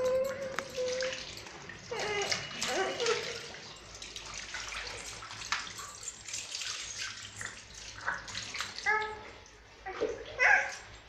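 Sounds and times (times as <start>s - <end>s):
water splashing on skin: 0.0s - 9.2s.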